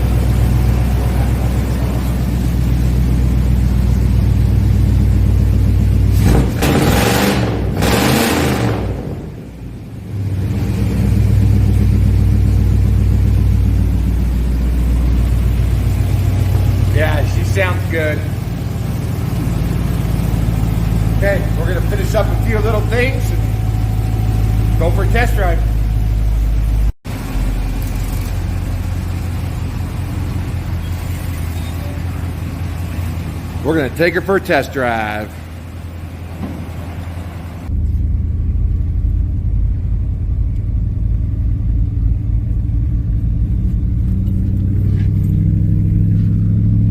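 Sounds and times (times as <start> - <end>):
truck engine idling: 0.0 - 46.9.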